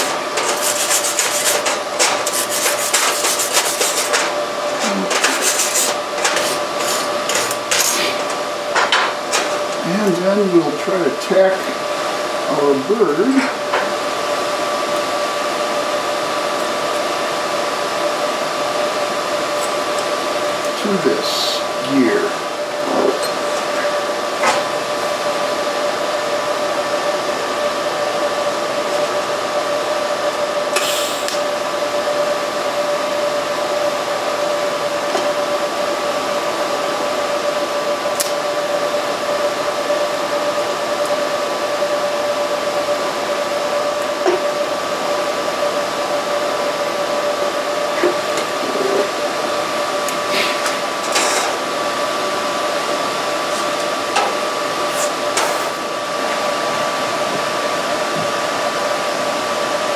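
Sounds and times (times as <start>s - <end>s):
welding equipment hissing and humming: 0.0s - 59.9s.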